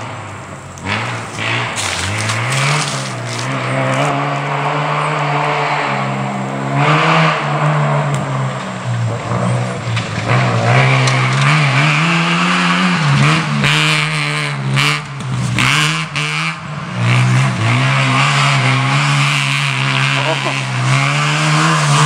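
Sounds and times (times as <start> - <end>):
rotary engine revving hard: 0.0 - 22.0.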